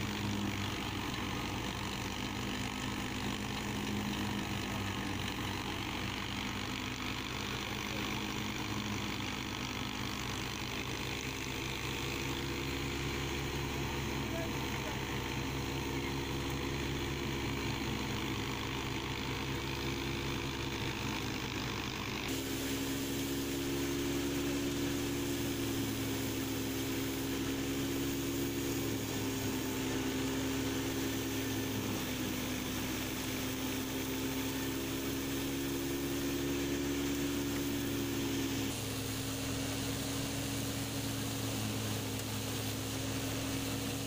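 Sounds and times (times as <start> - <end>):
thresher machine drone: 0.0 - 44.0
tractor engine hum: 0.0 - 44.0.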